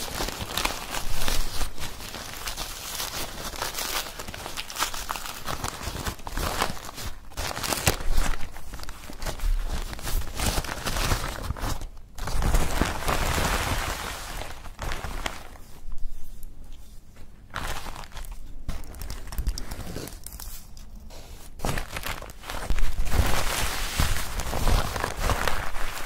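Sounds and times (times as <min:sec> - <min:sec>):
tissue paper crinkling: 0:00.0 - 0:26.0.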